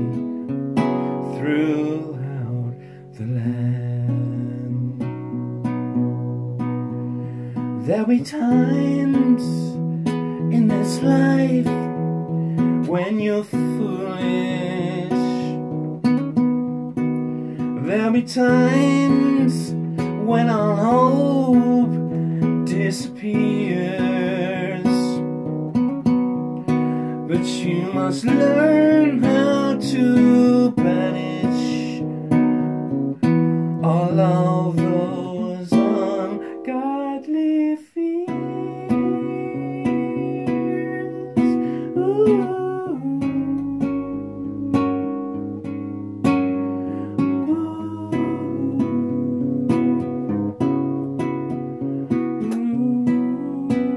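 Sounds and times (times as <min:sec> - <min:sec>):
strummed acoustic guitar: 0:00.0 - 0:53.9.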